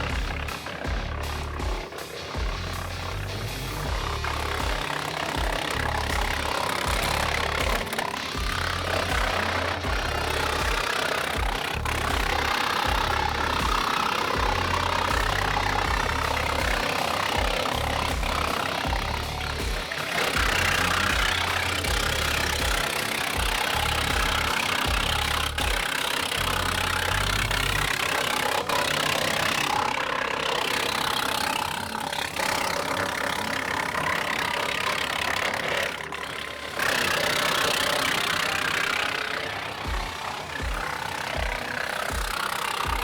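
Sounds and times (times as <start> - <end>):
wood chipper running: 0.0 - 43.0.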